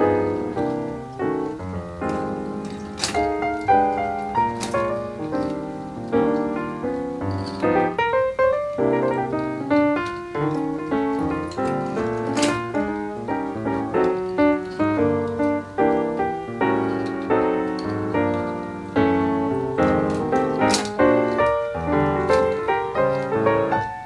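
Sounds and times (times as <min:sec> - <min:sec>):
background piano music: 0:00.0 - 0:24.0.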